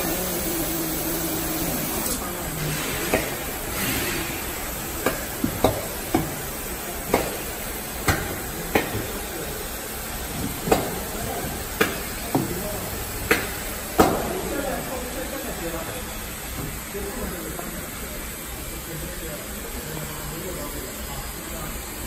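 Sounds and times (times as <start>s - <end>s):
machine hiss: 0.0s - 18.9s.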